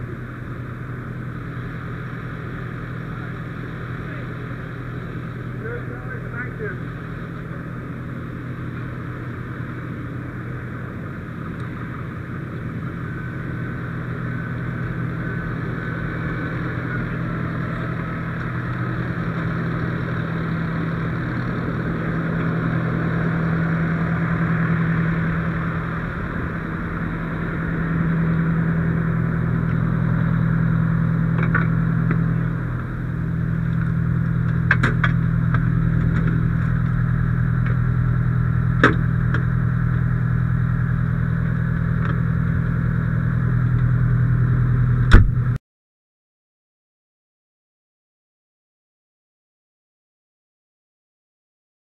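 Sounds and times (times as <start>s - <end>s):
diesel engine running: 0.0s - 45.6s.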